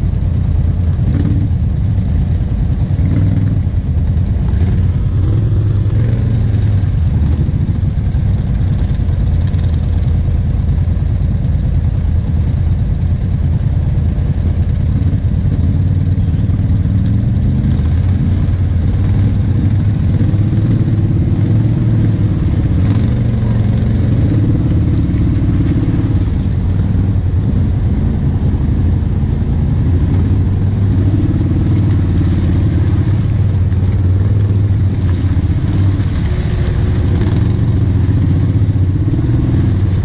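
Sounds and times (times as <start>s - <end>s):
atv engine running at low revs: 0.0s - 40.0s.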